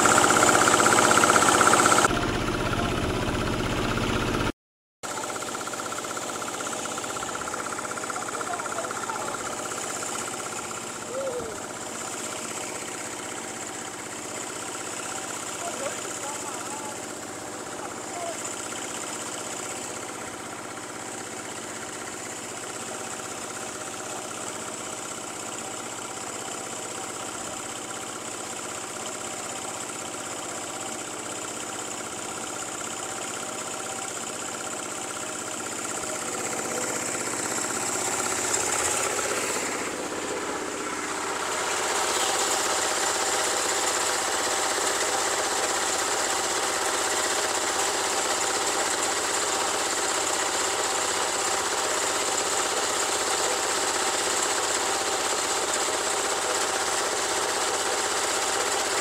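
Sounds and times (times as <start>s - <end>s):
motor engine running: 0.0s - 59.0s.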